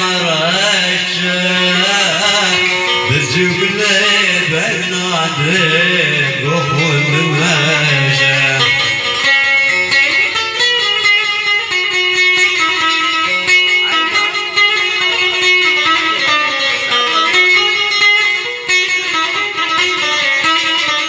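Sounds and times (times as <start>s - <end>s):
plucked string instrument melody: 0.0s - 21.0s.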